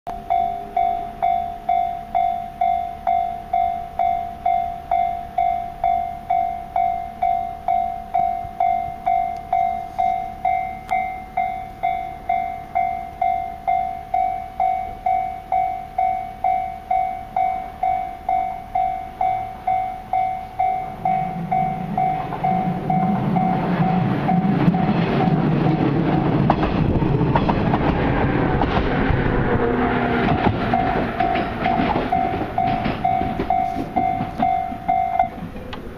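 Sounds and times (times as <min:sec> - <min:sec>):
level-crossing warning bell: 0:00.1 - 0:25.9, 0:29.6 - 0:35.9
electric train rumble and clatter: 0:00.1 - 0:35.9.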